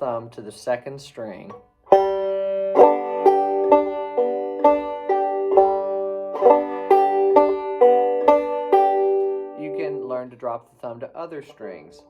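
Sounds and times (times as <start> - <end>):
banjo plucked notes: 1.3 - 10.6, 11.2 - 12.0.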